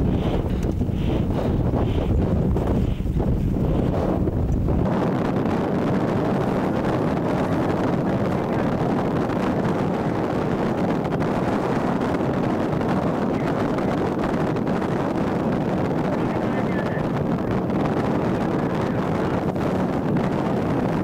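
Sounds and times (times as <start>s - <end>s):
wind blowing across microphone: 0.0s - 21.0s.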